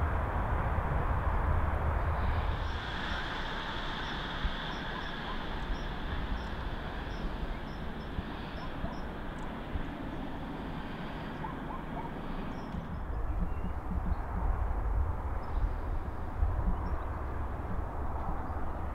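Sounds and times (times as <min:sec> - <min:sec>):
low rumble and hiss: 0:00.0 - 0:18.9.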